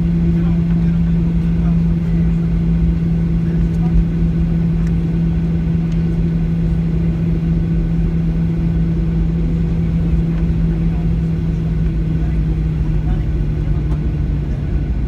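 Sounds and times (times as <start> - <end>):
airliner rolling rumble: 0.0 - 15.0
jet engine drone: 0.0 - 15.0.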